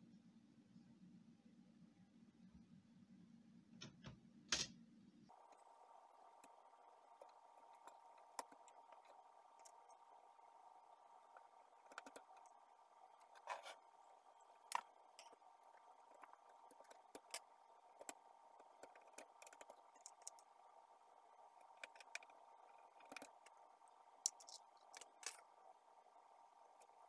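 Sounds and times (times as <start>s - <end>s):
low steady hiss: 0.0s - 27.0s.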